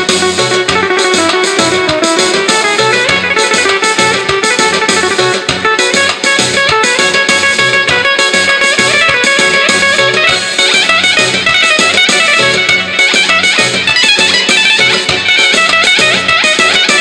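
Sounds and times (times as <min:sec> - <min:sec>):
plucked string melody: 0:00.0 - 0:17.0
steady beat: 0:00.0 - 0:17.0.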